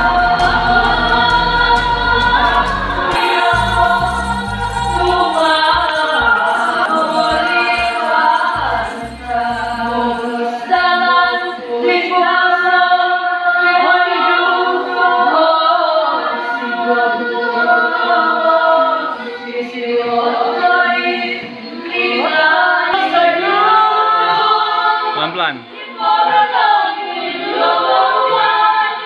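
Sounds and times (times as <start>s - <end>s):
group singing a cappella chant: 0.0s - 29.0s.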